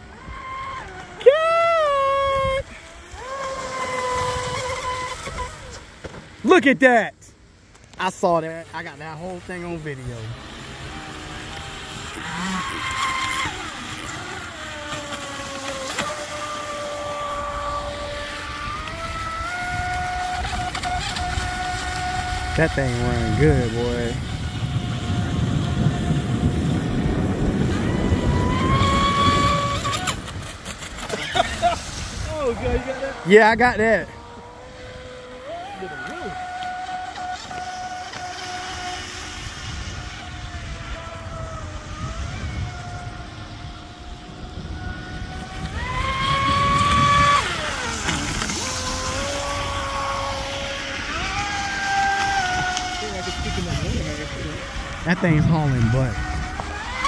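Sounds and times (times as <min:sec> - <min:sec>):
electric motor whining: 0:00.0 - 0:06.6, 0:07.6 - 0:57.0.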